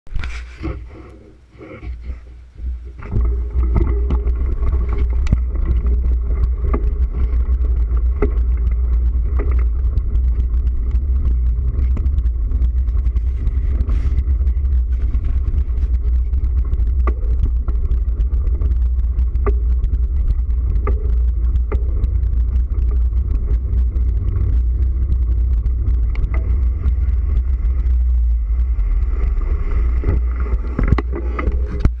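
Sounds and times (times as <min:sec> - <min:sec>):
wind buffeting microphone: 0:02.6 - 0:32.0.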